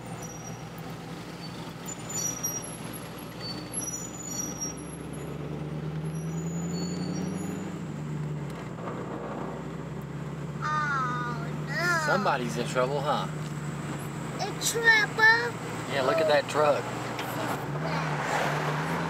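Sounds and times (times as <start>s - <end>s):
car engine hum: 0.0s - 19.0s.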